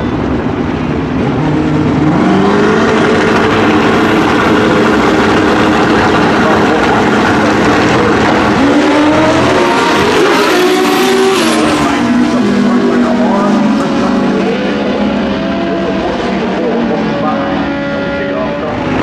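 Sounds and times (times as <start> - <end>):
drag racing motorcycles accelerating: 0.3 - 19.0.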